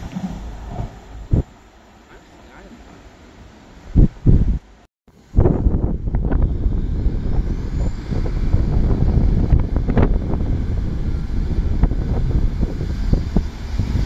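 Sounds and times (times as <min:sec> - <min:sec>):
diesel train rumble: 0:00.0 - 0:14.0.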